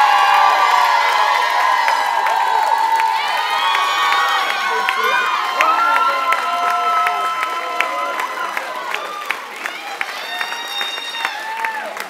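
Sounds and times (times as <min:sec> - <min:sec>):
crowd cheering and whooping: 0:00.0 - 0:12.0
people clapping: 0:00.0 - 0:12.0.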